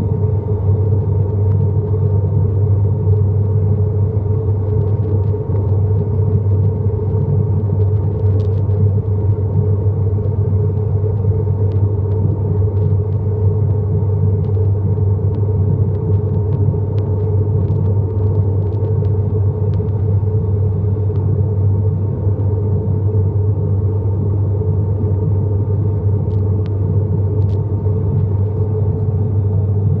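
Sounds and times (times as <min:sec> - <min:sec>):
low propeller hum: 0:00.0 - 0:30.0
steady higher engine tone: 0:00.0 - 0:30.0.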